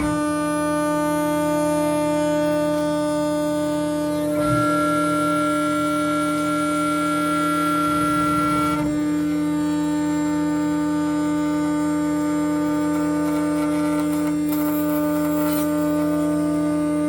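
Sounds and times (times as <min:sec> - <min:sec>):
cnc router cutting wood: 0:00.0 - 0:17.0.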